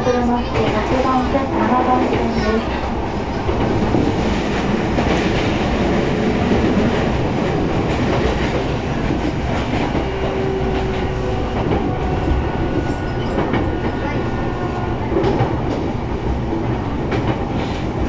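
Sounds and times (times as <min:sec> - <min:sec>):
train passing alongside: 0:00.0 - 0:18.0
train wheels clacking on rails: 0:00.2 - 0:18.0.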